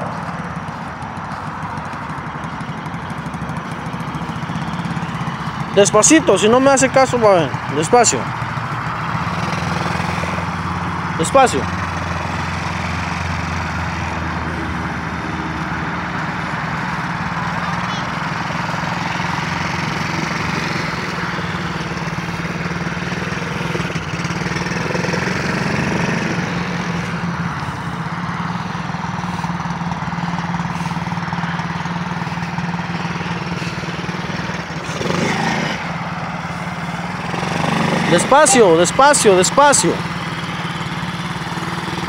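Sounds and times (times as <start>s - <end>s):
small quad engine running: 0.0s - 42.0s.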